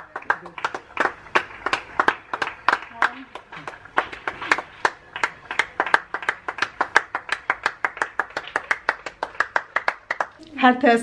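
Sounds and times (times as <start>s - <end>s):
hands clapping fast: 0.0s - 10.4s.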